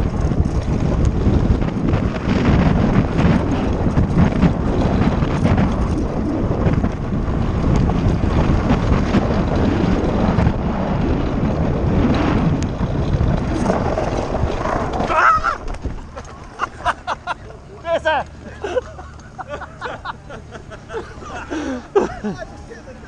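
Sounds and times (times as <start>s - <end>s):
cart wheels rumbling over gravel: 0.0s - 23.0s
wind buffeting microphone: 0.0s - 23.0s.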